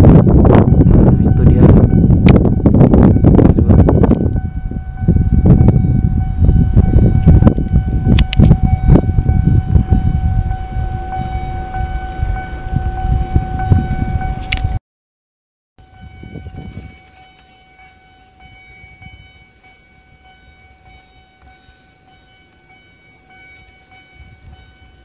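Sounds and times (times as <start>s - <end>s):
steady high tone: 0.0s - 14.8s, 15.8s - 25.0s
wind buffeting microphone: 0.0s - 14.8s, 15.8s - 25.0s.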